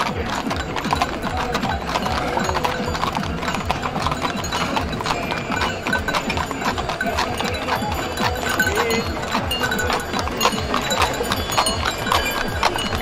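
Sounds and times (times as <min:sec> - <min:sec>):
horse hooves clip-clopping on asphalt: 0:00.0 - 0:13.0
music: 0:00.0 - 0:13.0.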